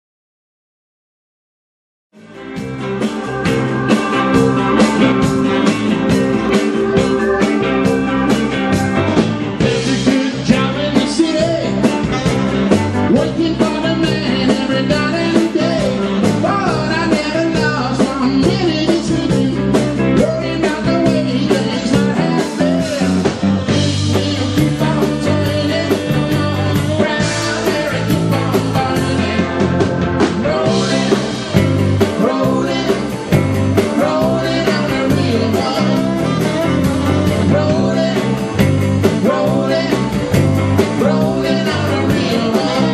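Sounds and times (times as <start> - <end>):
electric bass: 2.1 - 42.9
drum kit: 2.2 - 42.9
electric guitar: 2.2 - 42.9
man singing: 3.4 - 42.9.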